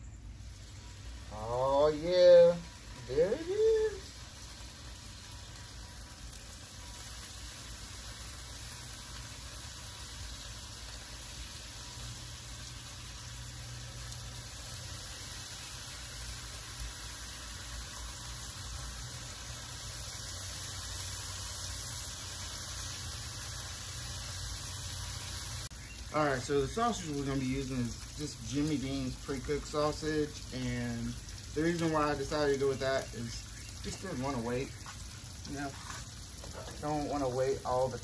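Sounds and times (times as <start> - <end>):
bacon sizzling on a griddle: 0.0 - 38.0.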